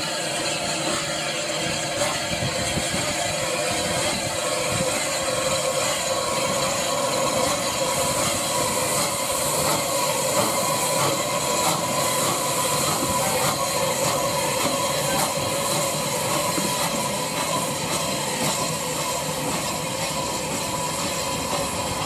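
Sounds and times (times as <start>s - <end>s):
steam hiss: 0.0s - 22.0s
steam train wheels rumbling on rail: 0.0s - 22.0s.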